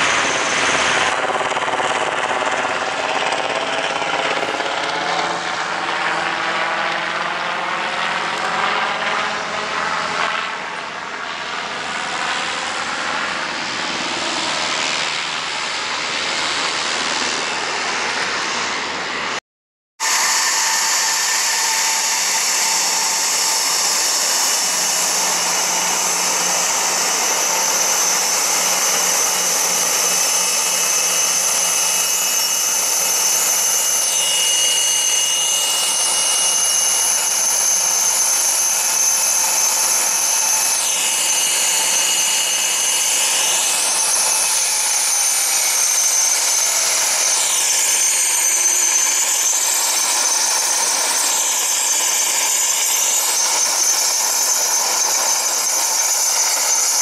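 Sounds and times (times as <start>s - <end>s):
high-pitched jet engine whine: 0.0s - 19.4s, 20.0s - 57.0s.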